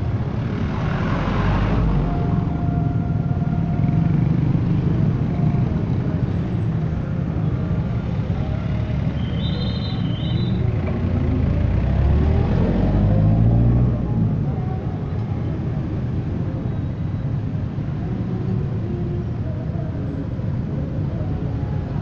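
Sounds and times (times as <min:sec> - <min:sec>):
minivan engine: 0:00.0 - 0:22.0.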